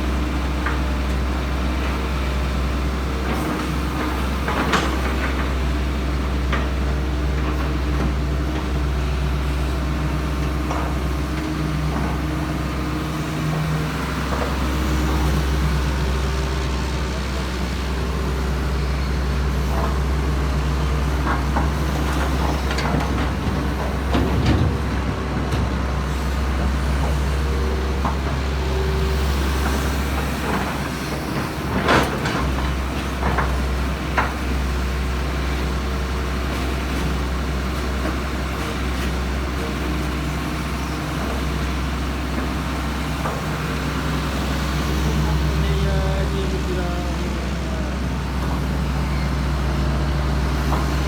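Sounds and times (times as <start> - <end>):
heavy diesel engines humming: 0.0 - 51.0.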